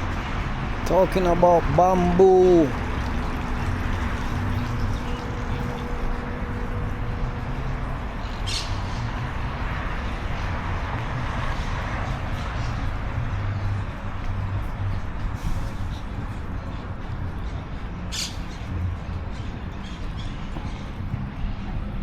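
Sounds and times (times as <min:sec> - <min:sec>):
outdoor background rumble: 0:00.0 - 0:22.0.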